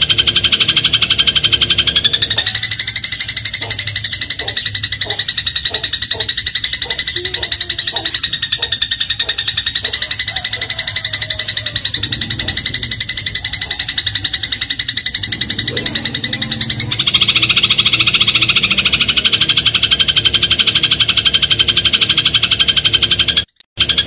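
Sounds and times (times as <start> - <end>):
sparrow rattling chatter: 0.0 - 24.0.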